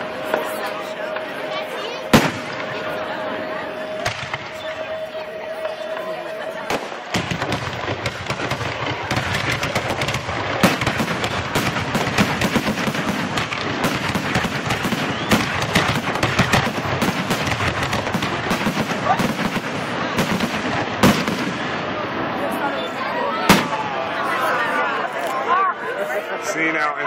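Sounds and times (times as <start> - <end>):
fireworks bangs and crackles: 0.0 - 24.8.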